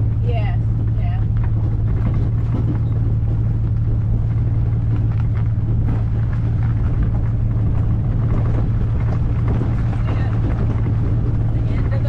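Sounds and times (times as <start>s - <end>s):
car engine and road noise: 0.0s - 12.0s
knocks and rattles: 0.0s - 12.0s.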